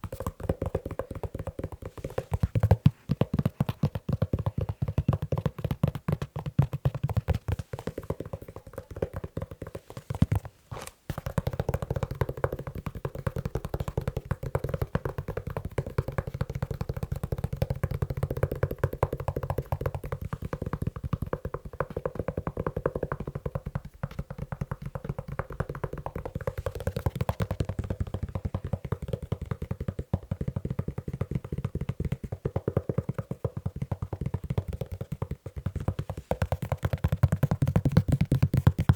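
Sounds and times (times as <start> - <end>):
fingers tapping on leather shoe: 0.0 - 38.9.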